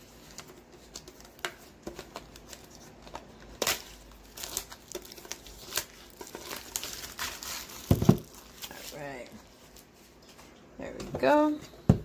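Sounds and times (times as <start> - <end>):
packaging crinkling: 0.3 - 9.9.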